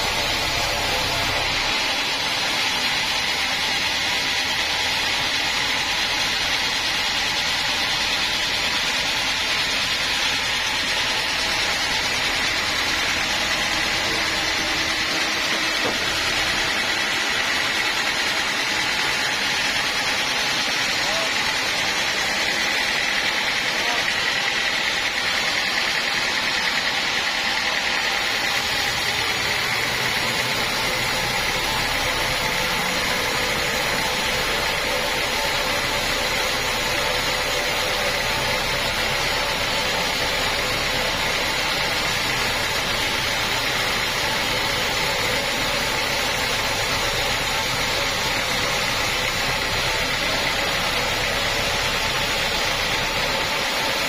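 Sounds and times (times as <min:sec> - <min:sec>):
sawing hiss: 0:00.0 - 0:54.0.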